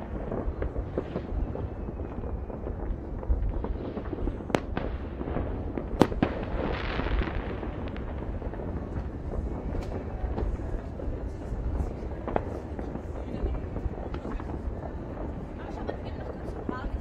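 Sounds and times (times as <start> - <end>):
crackling hiss: 0.0 - 17.0
distant fireworks rumble: 0.0 - 17.0
sharp firework cracks: 0.0 - 17.0.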